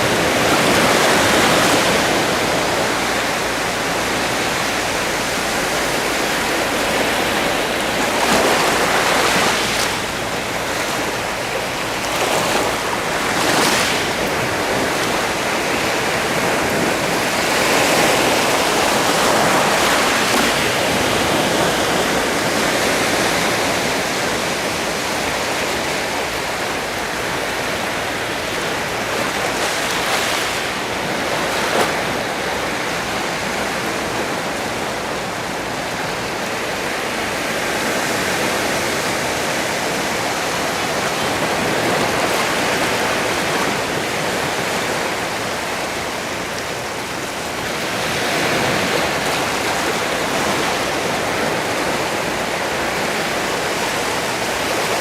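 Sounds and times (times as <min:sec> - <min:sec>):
waves washing onto shore: 0:00.0 - 0:55.0.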